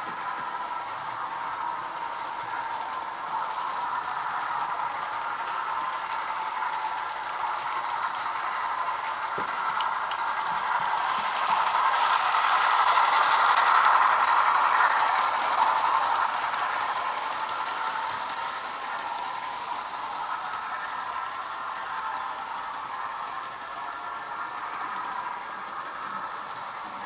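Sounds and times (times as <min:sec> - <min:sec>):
model train rattling on track: 0:00.0 - 0:27.0.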